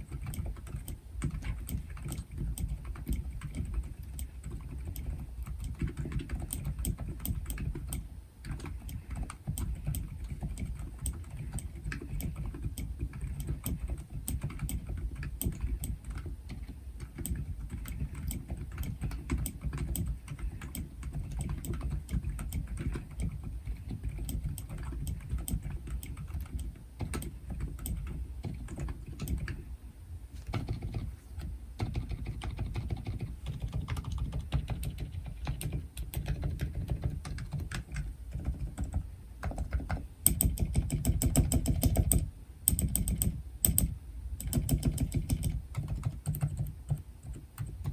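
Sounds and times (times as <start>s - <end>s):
muted keyboard typing: 0.0s - 29.6s, 30.5s - 47.9s.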